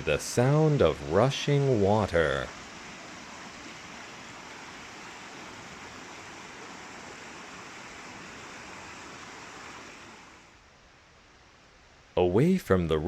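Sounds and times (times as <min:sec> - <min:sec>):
river water rushing: 0:00.0 - 0:11.7.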